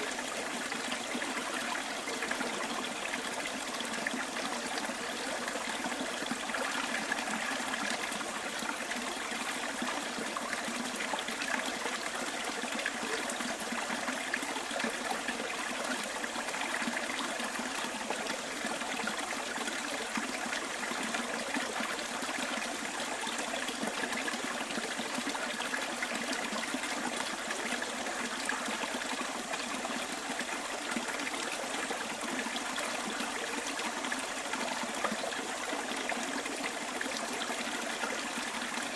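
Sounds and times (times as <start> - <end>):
stream flowing and trickling: 0.0 - 38.9.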